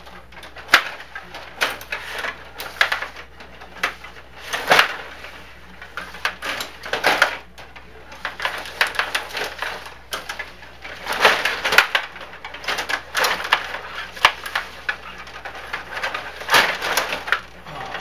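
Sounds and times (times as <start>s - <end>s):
table hockey clacks and rattles: 0.0s - 18.0s.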